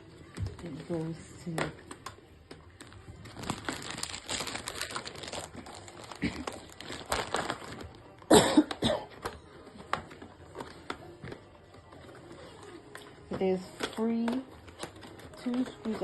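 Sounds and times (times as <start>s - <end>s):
cardboard and plastic packaging crinkling: 0.1s - 16.0s.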